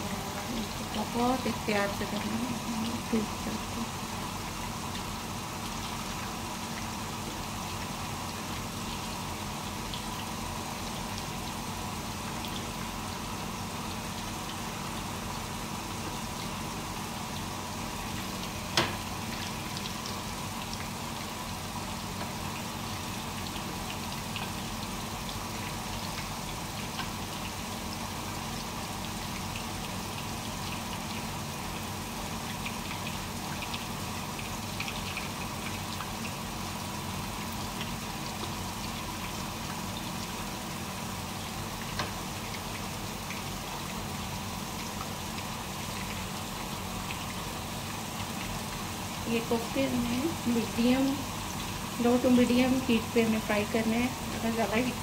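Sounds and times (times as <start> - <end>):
food frying in hot oil: 0.0 - 55.0.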